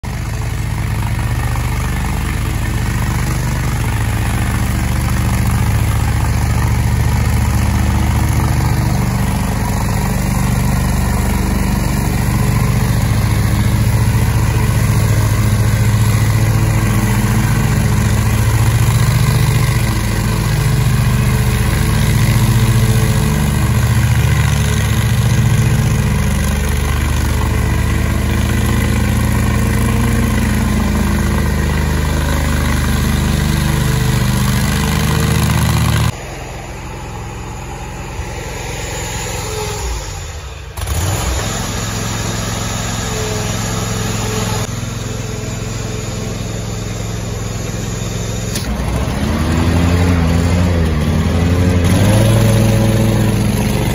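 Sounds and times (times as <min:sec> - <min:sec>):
mower engine running: 0:00.0 - 0:53.9
blades cutting grass: 0:00.1 - 0:53.9.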